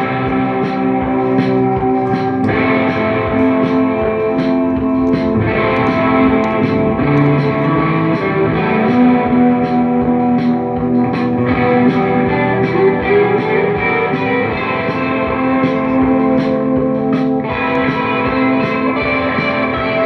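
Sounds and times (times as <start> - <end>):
electric guitar sustained chords: 0.0 - 20.0
steady beat: 0.0 - 20.0.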